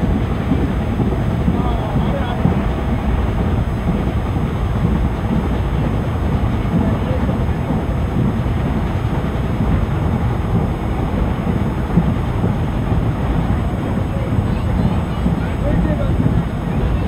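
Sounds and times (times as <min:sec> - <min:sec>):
train coach wheels rumbling: 0:00.0 - 0:17.0
wind buffeting microphone: 0:00.0 - 0:17.0.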